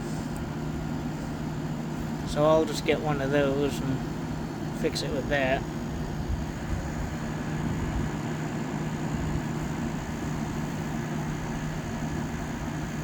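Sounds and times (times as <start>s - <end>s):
air conditioner fan rushing: 0.0s - 13.0s
compressor hum: 0.0s - 13.0s.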